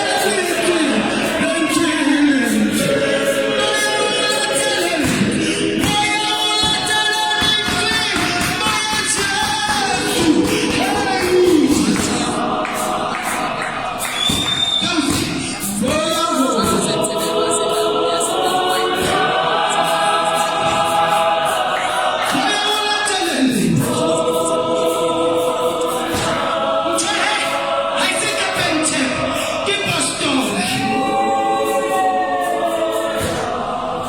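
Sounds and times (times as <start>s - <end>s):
gospel choir singing in harmony: 0.0s - 34.0s.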